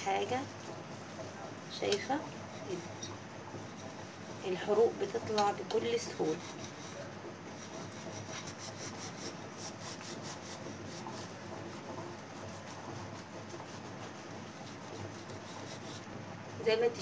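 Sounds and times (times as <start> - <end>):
steel wool scrubbing metal: 0.0 - 16.1.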